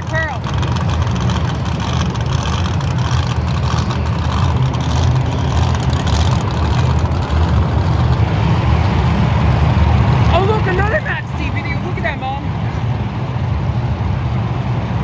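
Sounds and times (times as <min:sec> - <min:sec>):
monster truck engine rumbling: 0:00.0 - 0:14.8.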